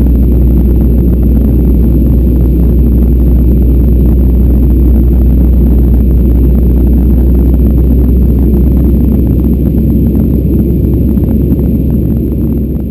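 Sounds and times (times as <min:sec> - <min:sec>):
jet airliner engines rumbling: 0:00.0 - 0:12.9.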